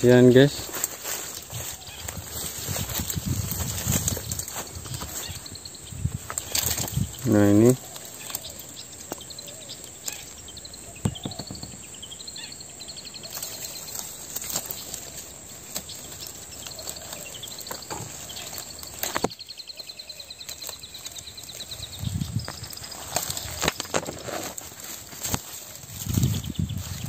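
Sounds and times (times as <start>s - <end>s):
leaves rustling: 0.0s - 27.0s
nestlings chirping: 0.0s - 27.0s.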